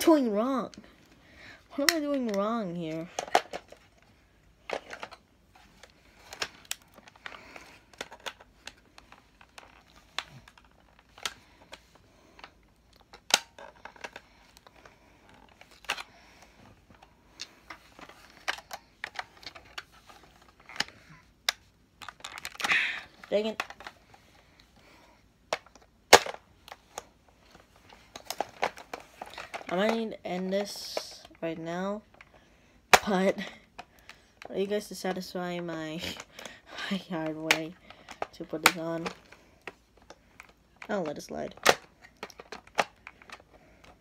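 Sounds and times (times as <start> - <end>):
plastic parts clicking and knocking: 1.8 - 24.8, 25.5 - 31.4, 36.1 - 44.0.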